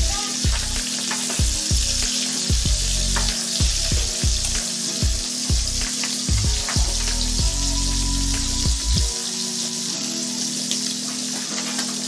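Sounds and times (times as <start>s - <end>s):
background music with low beat: 0.0s - 12.0s
fish frying in oil: 0.0s - 12.0s.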